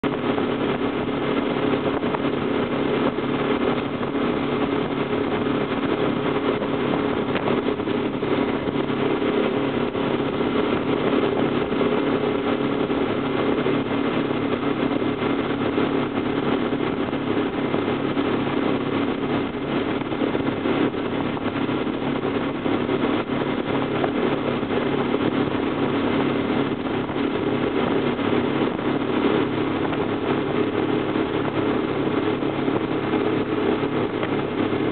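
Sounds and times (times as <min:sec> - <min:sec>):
motorboat engine running: 0:00.0 - 0:34.9
water rushing from wake: 0:00.0 - 0:34.9.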